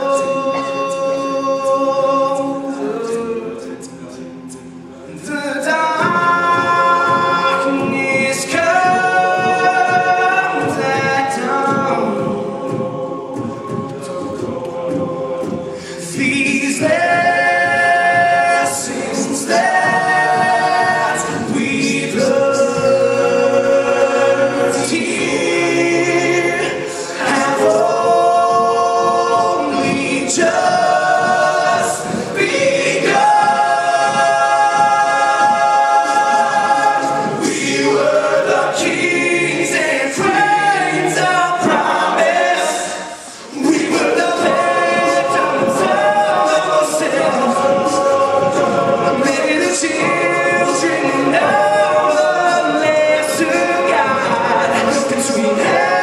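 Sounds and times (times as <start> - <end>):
male group singing in harmony: 0.0 - 56.0.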